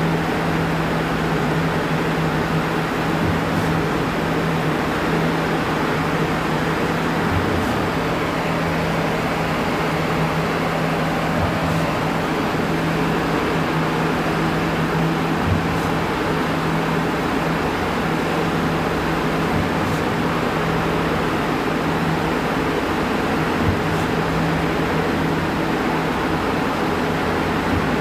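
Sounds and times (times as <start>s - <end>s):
machine drone: 0.0s - 28.0s.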